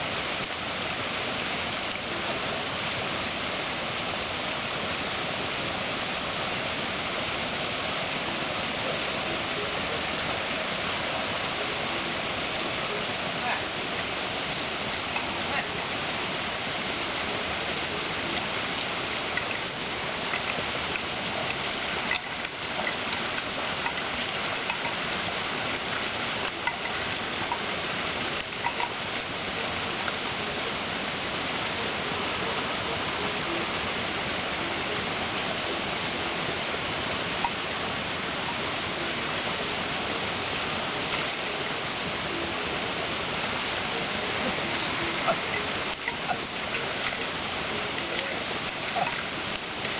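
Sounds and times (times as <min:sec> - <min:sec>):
faint ticks and splashes: 0:00.0 - 0:49.9
flowing water rushing: 0:00.0 - 0:49.9.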